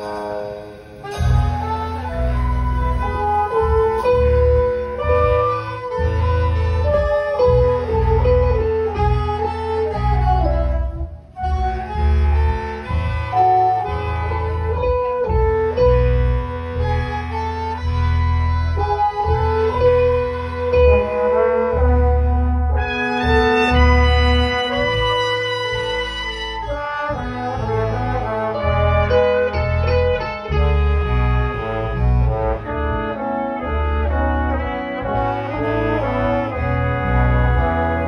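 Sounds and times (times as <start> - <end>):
big band playing: 0.0 - 38.0
heavy pulsing bass: 0.0 - 38.0.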